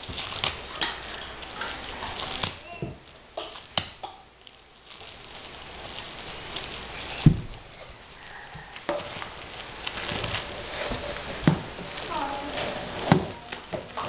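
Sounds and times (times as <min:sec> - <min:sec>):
plastic wrapper crinkling: 0:00.0 - 0:14.0.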